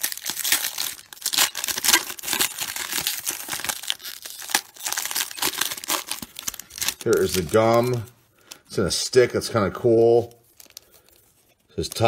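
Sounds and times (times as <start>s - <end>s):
plastic wrapper tearing and crinkling: 0.0s - 8.8s, 10.4s - 12.0s.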